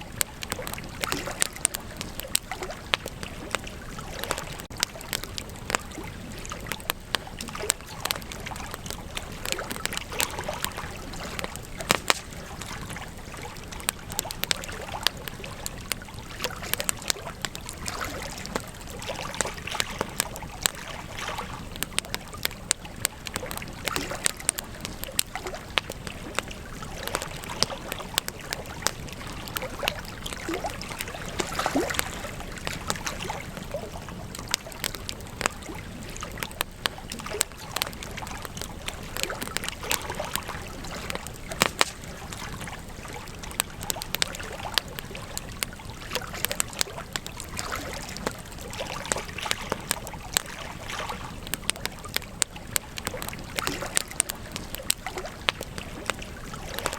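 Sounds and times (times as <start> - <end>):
hiss of flames: 0.0 - 17.9, 21.4 - 56.9
burning wood popping and snapping: 0.0 - 56.9.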